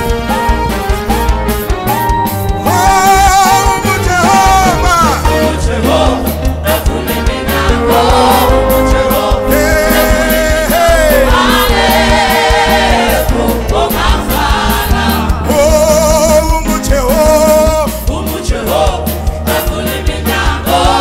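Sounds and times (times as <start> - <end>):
band with bass and drums: 0.0 - 21.0
lead singer with vibrato: 2.6 - 21.0
choir singing: 2.7 - 16.5, 17.5 - 21.0.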